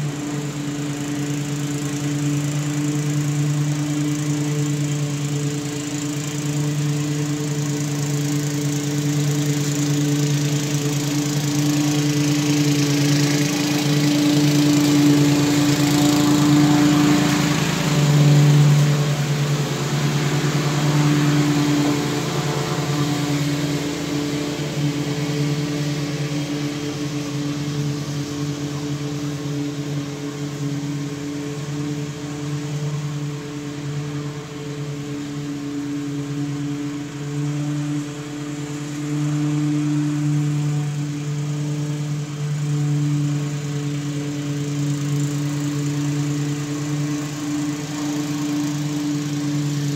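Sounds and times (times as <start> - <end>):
lawn mower engine running: 0.0 - 49.9.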